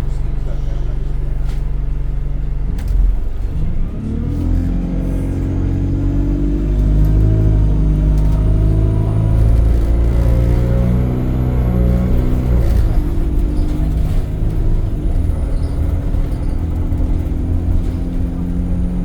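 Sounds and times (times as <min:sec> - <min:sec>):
bus diesel engine accelerating: 0:00.0 - 0:19.0.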